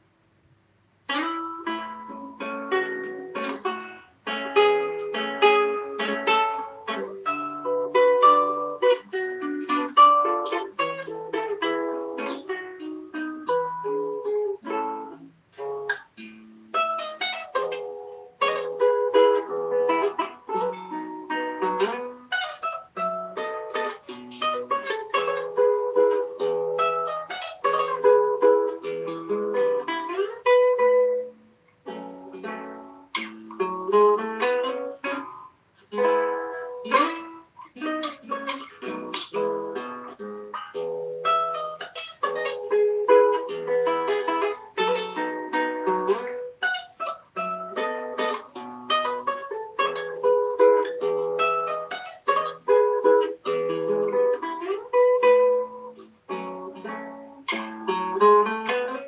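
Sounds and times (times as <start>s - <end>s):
classical guitar fingerstyle: 1.0s - 59.0s.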